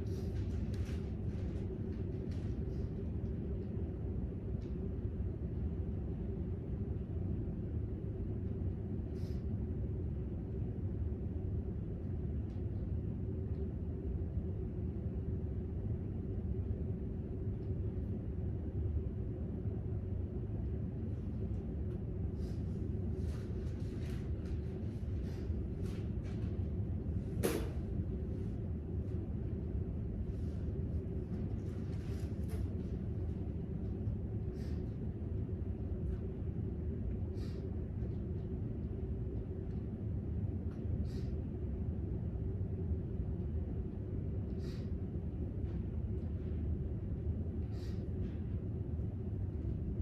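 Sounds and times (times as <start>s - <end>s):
low room tone rumble: 0.0s - 50.0s.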